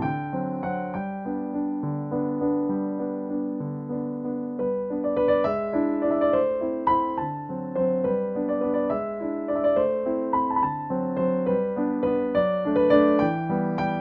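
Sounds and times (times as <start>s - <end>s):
piano melody over chords: 0.0s - 14.0s.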